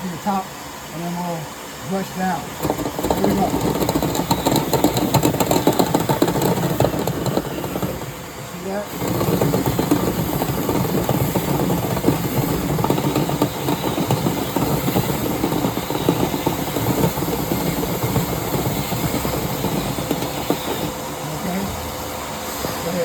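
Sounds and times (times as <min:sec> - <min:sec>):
brush rattling against duct: 0:02.1 - 0:21.8
drill motor whir: 0:02.4 - 0:23.0.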